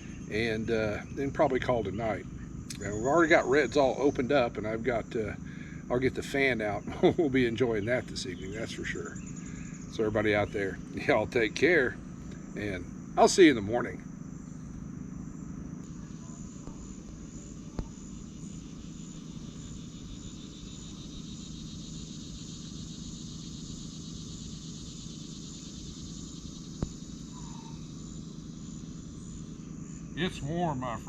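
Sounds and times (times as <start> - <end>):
crickets trilling: 0.0 - 31.0
low steady hum: 0.0 - 31.0.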